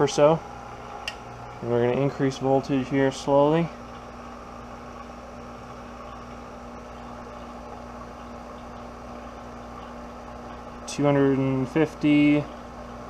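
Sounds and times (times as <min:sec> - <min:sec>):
equipment humming with whirring hiss: 0:00.0 - 0:13.0.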